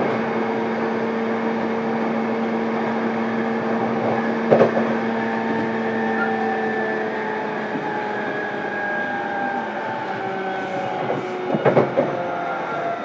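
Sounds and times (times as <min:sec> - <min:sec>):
electric train running on rails: 0:00.0 - 0:13.0.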